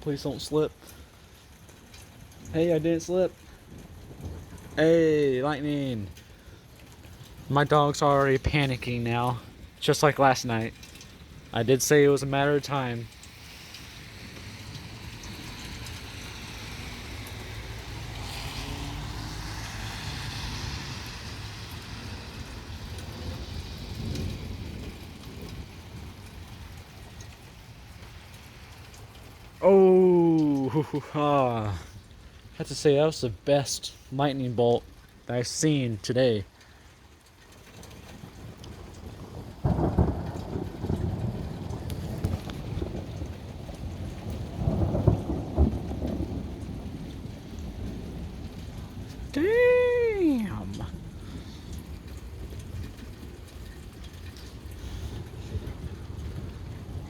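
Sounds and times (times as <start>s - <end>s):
raindrops ticking: 0.0s - 57.0s
steady rain falling: 0.0s - 57.0s
low thunder rumble: 1.9s - 32.6s, 37.8s - 57.0s.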